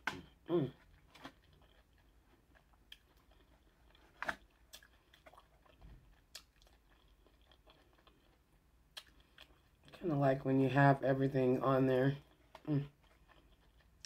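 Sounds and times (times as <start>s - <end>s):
chewing: 0.1s - 10.0s, 12.0s - 14.0s.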